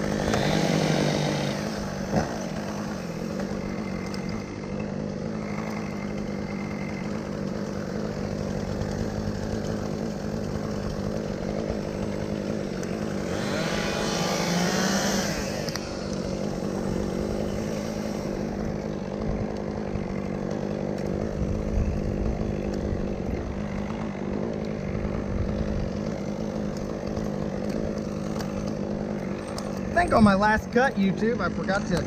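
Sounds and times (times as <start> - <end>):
chainsaw cutting wood: 0.0 - 32.0
chainsaw running: 0.0 - 32.0.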